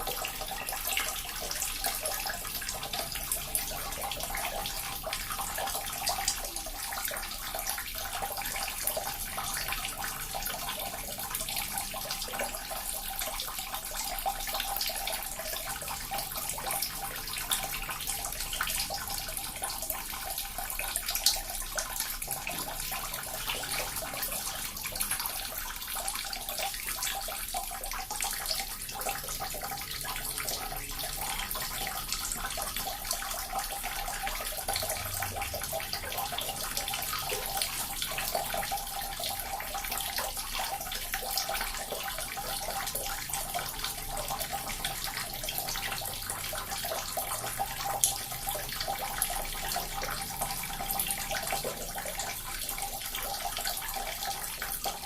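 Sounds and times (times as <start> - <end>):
fountain water trickling: 0.0 - 55.0.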